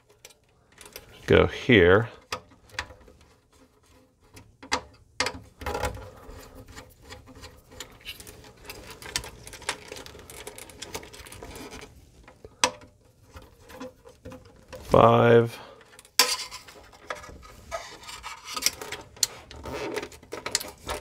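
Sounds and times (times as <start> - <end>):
light scraping and rustling: 0.0 - 4.5, 5.6 - 21.0.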